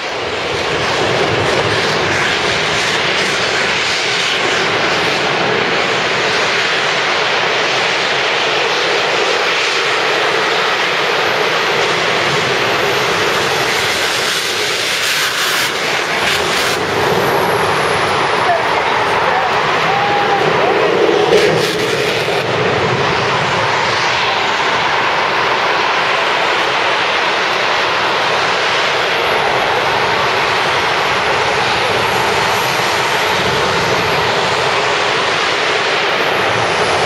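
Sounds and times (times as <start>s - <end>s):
jet engine running: 0.0s - 37.0s.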